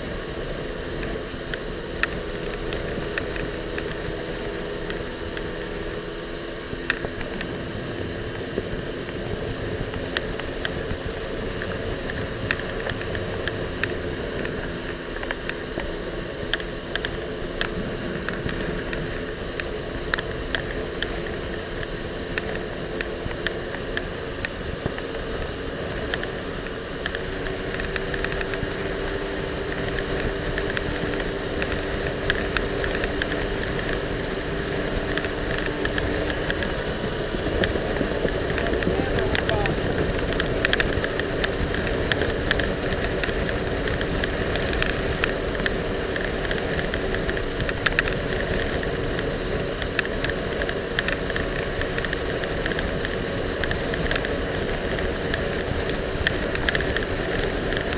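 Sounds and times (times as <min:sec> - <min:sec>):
jet ski engine running: 0:00.0 - 0:57.9
rush of wind and water: 0:00.0 - 0:57.9
camera rattling on life vest: 0:00.3 - 0:57.9.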